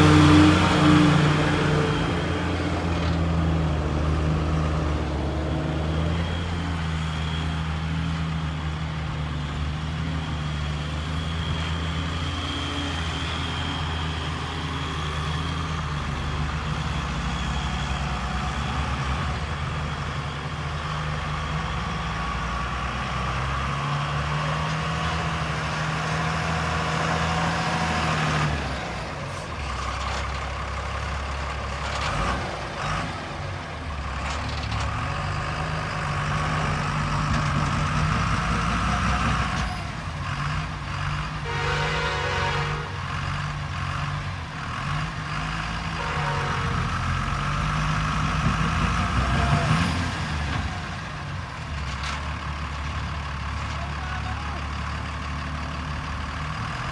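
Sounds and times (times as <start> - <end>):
backhoe diesel engine working: 0.0 - 56.9.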